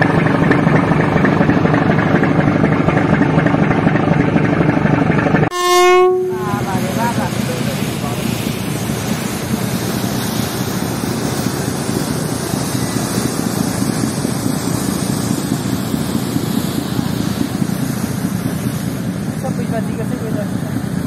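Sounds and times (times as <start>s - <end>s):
boat engines droning: 0.0s - 21.0s
wake rushing along hull: 0.0s - 21.0s.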